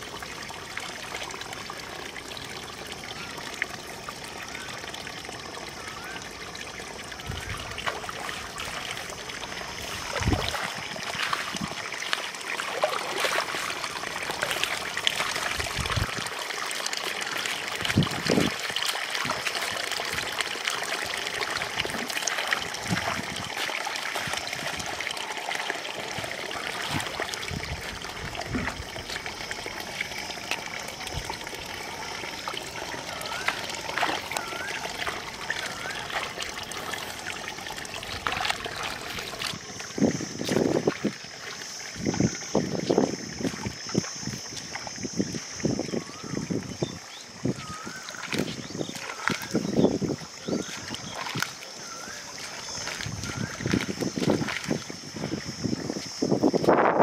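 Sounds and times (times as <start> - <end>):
shallow water splashing: 0.0 - 56.8.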